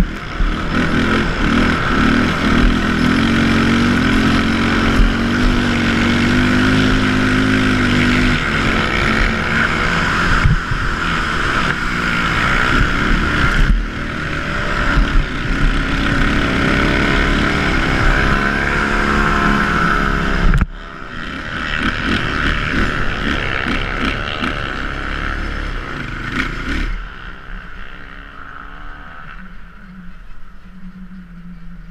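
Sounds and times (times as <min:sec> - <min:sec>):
atv engines revving: 0:00.0 - 0:31.9.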